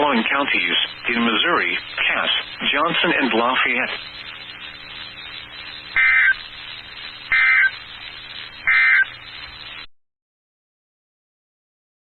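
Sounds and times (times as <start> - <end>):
data tone bursts: 0.0 - 9.9
radio hiss and hum: 0.0 - 9.9.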